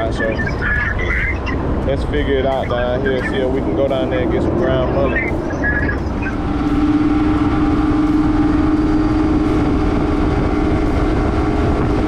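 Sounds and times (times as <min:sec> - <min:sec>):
outboard motors droning: 0:00.0 - 0:12.0.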